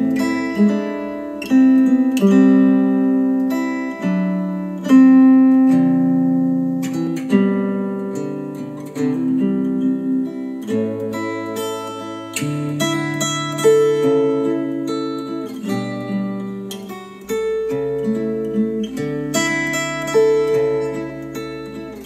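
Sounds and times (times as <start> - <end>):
plucked string instrumental music: 0.0 - 22.0.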